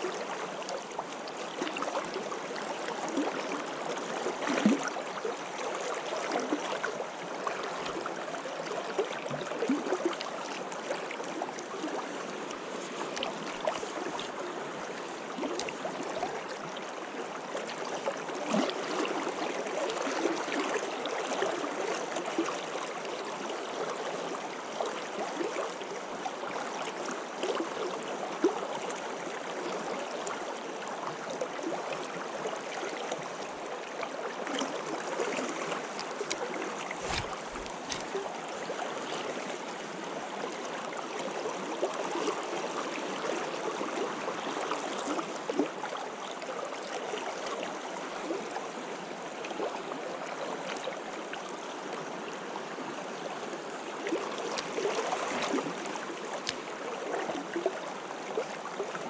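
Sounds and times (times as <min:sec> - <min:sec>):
stream water burbling: 0:00.0 - 0:59.0.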